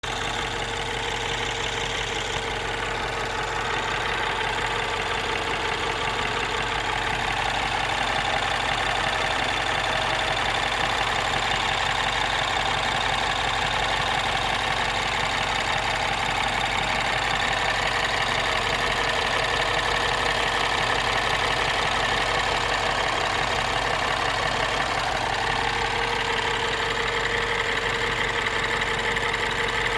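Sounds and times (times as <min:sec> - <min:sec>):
car engine idling: 0:00.0 - 0:29.9
fast engine ticking: 0:00.0 - 0:29.9.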